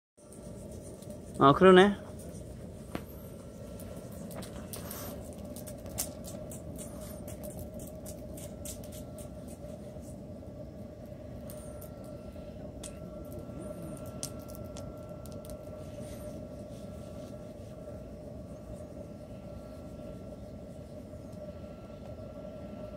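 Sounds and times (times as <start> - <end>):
wood fire crackling: 0.2 - 22.9.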